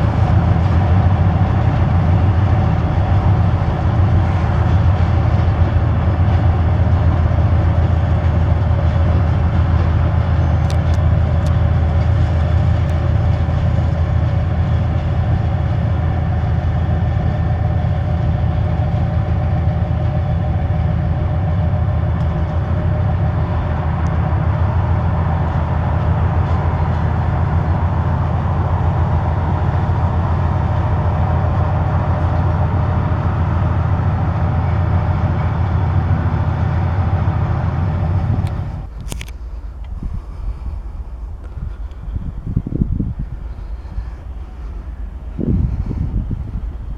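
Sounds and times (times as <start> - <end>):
diesel locomotive engine humming: 0.0 - 46.9.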